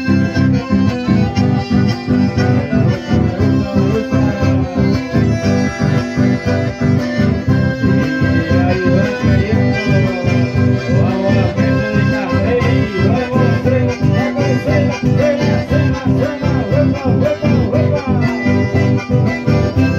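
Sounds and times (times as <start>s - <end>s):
accordion melody: 0.0s - 19.9s
band rhythmic beat: 0.0s - 19.9s.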